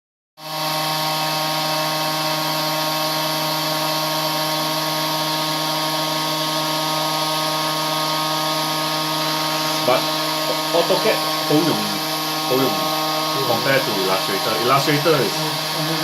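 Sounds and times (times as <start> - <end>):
cnc router spindle whining: 0.4 - 16.0.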